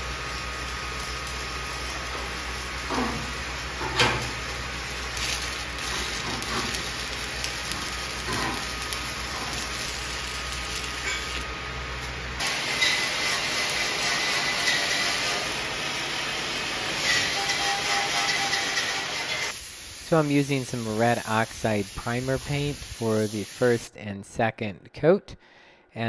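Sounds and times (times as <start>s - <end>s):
welding arc hissing: 0.0s - 23.9s.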